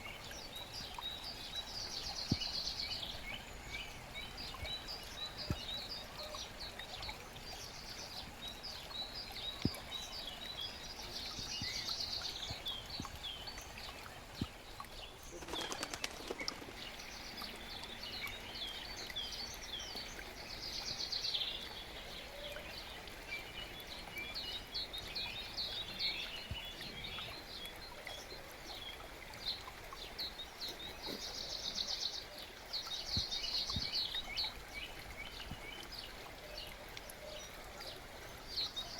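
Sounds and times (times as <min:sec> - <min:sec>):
forest brook running: 0:00.0 - 0:38.9
songbirds chirping and trilling: 0:00.0 - 0:38.9.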